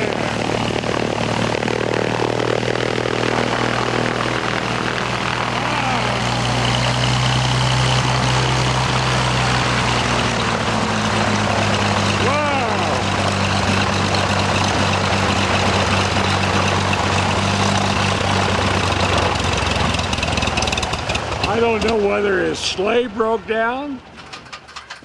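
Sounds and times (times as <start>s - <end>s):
propeller airplane engine idling: 0.0s - 25.0s.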